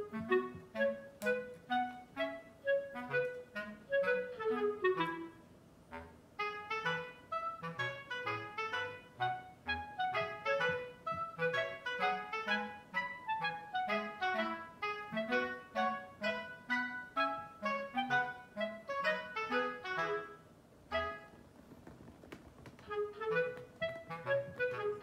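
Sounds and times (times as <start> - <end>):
lively tune of quick notes: 0.0 - 21.4, 22.8 - 25.0.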